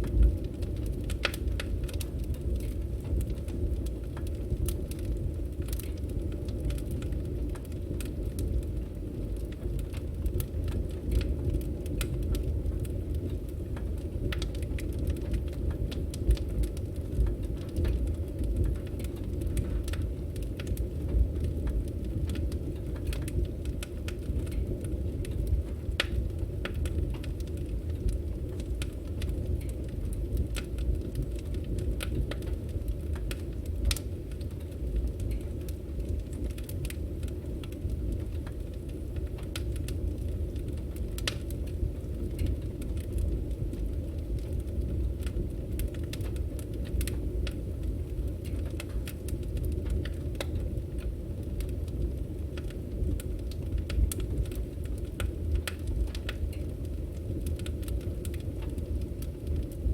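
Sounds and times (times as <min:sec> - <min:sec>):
firewood crackling and popping: 0:00.0 - 0:59.9
low rumble of fire: 0:00.0 - 0:59.9.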